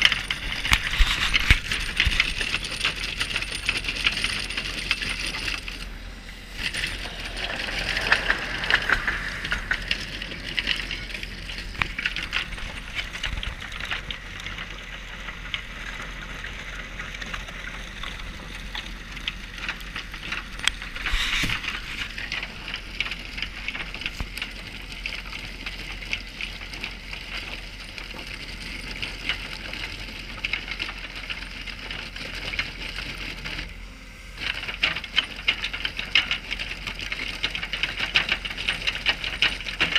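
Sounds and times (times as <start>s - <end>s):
asphalt pieces rattling: 0.0s - 33.3s, 34.4s - 39.9s
milling machine chipping asphalt: 0.0s - 33.8s, 34.4s - 39.9s.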